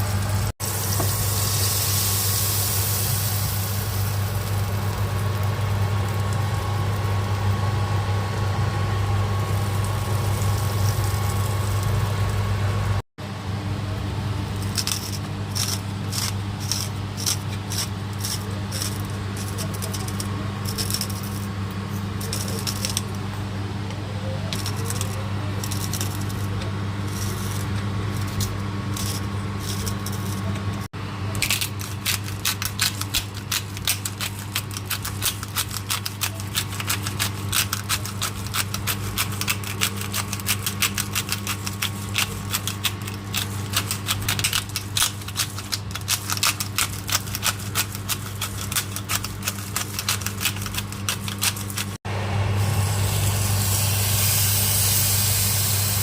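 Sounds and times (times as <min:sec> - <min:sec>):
cooking clicking and crackling: 0:00.0 - 0:13.0, 0:14.5 - 0:23.3, 0:24.5 - 0:52.0
steady low hum: 0:00.0 - 0:56.0.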